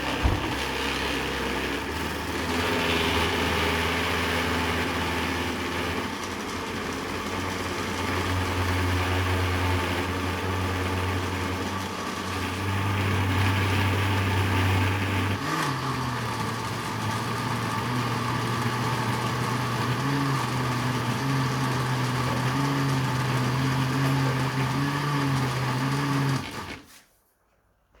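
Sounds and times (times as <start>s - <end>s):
electric blender motor running: 0.0s - 26.9s.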